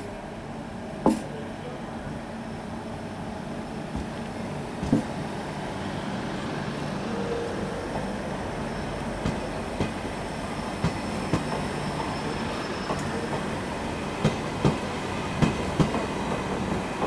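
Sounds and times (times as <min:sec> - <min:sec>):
train coaches rumbling past: 0:00.0 - 0:17.0.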